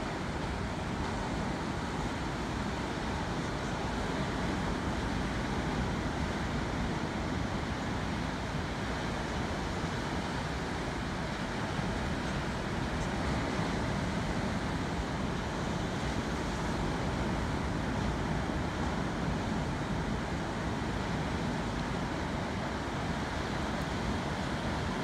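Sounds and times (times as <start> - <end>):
waves washing onto rocky shore: 0.1 - 25.0.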